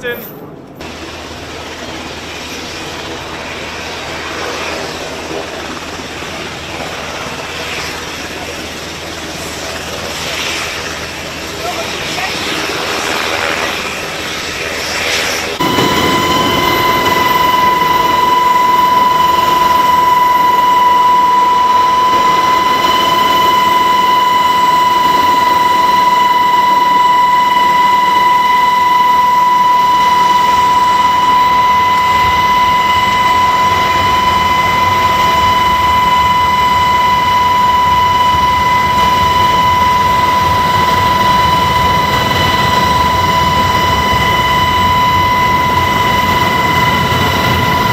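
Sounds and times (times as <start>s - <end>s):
turbine whine: 0.0s - 47.9s.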